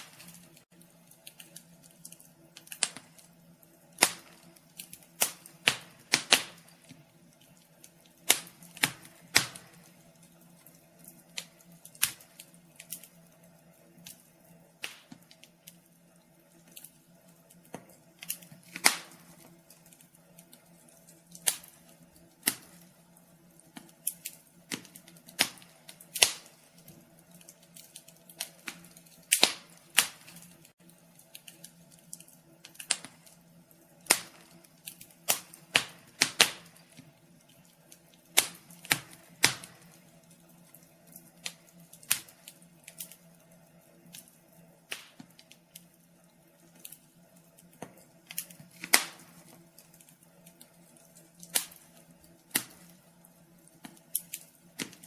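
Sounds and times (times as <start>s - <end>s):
faint steady hum: 0.0s - 55.0s
wood fire crackling: 0.0s - 55.0s.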